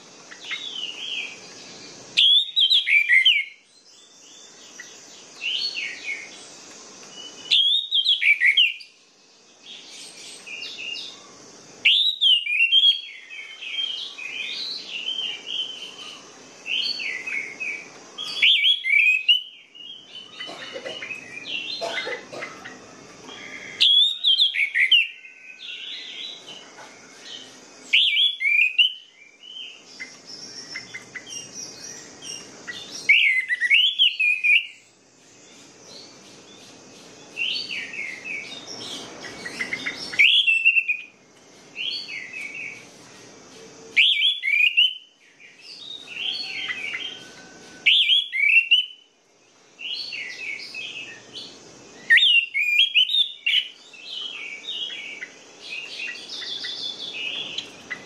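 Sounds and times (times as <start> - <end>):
bird whistling song phrases: 2.1 - 6.3, 7.1 - 9.0, 10.0 - 22.0, 22.6 - 26.5, 27.3 - 34.9, 37.4 - 41.2, 43.9 - 49.1, 49.8 - 58.0.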